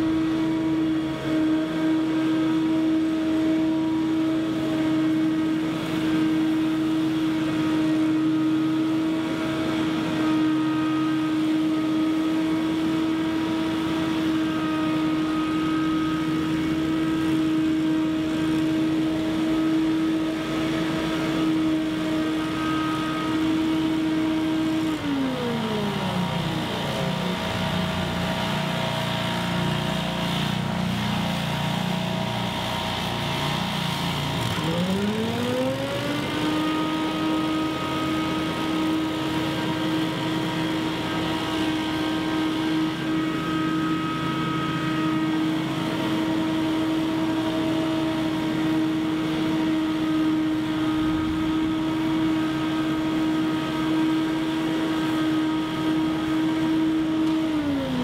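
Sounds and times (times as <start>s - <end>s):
leaf blowers running: 0.0s - 58.0s.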